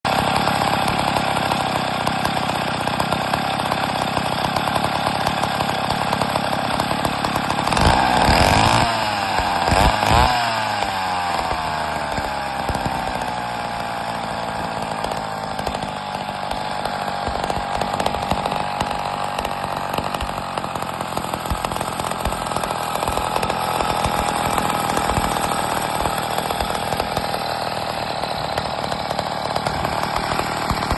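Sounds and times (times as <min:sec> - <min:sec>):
chainsaw engine revving: 0:00.0 - 0:30.9.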